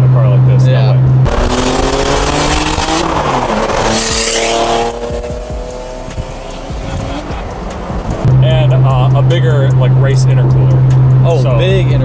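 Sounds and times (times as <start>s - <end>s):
car engine accelerating hard: 0.4s - 12.0s.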